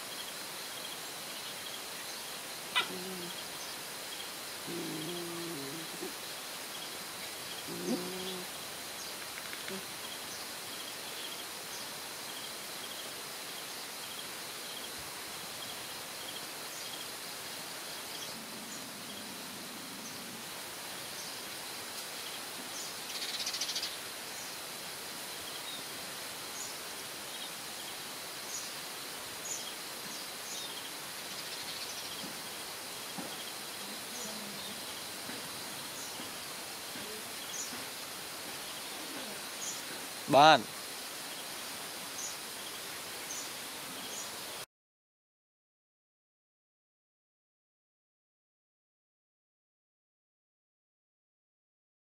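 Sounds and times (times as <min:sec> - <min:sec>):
steady outdoor hiss: 0:00.0 - 0:44.7.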